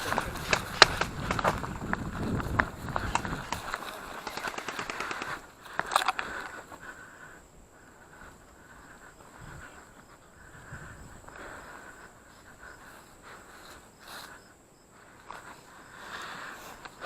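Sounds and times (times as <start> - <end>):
faint scattered noises: 0.0 - 17.0
insects chirring: 0.0 - 17.0.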